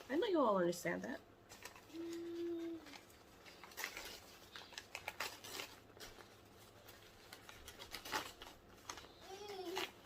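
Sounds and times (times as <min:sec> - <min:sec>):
packaging rustling and crinkling: 0:01.4 - 0:10.0.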